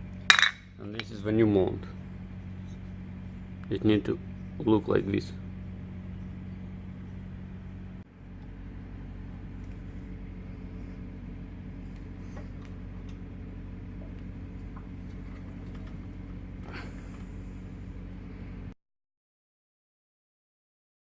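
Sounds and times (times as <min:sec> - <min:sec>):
car engine humming: 0:00.0 - 0:18.7.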